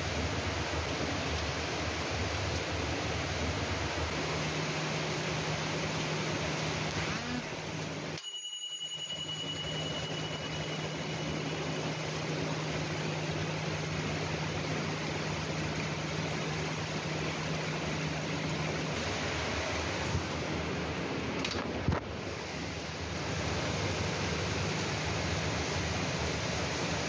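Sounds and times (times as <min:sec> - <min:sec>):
heavy rain: 0:00.0 - 0:08.2, 0:09.7 - 0:27.0.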